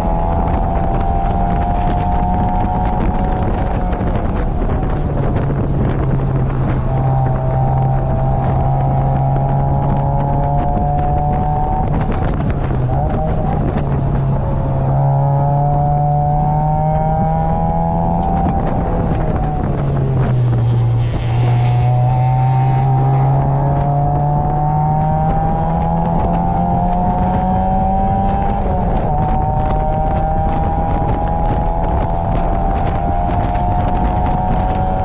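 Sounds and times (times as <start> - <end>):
wind rushing: 0.0 - 35.0.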